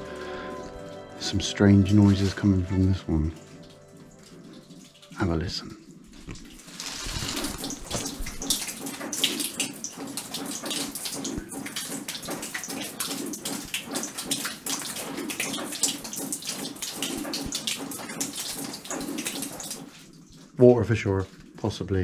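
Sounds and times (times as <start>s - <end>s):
water dripping and splashing: 0.0s - 22.0s.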